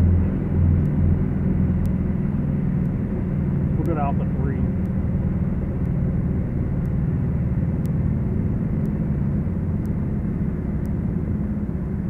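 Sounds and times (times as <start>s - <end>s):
twin piston aircraft engines droning: 0.0s - 12.0s
faint ticking: 0.7s - 1.1s, 1.7s - 12.0s.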